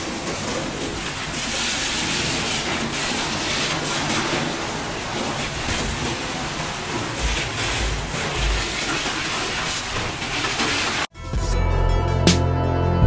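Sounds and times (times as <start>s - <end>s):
pressure washer spraying metal: 0.0s - 11.1s.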